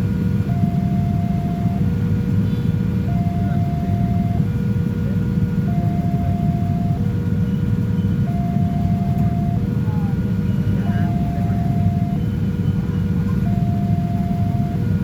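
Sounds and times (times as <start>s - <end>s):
steady low rumble: 0.0s - 15.0s
two-tone warning alarm: 0.4s - 2.1s, 3.0s - 4.6s, 5.6s - 15.0s.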